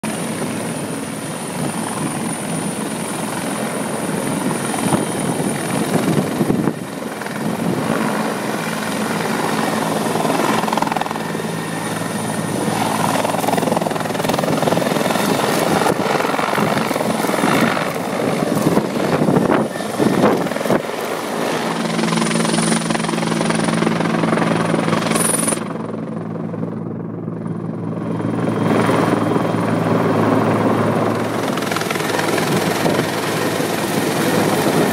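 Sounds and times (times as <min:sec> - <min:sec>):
high turbine whine: 0:00.0 - 0:34.9
helicopter rotor thrum: 0:00.1 - 0:34.9.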